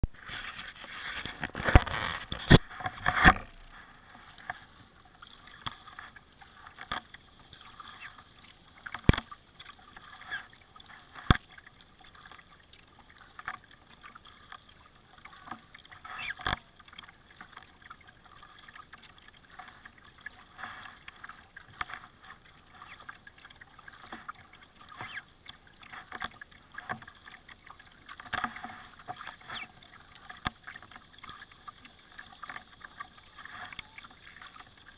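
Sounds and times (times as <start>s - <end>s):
paddle strokes splashing water: 0.0s - 34.9s.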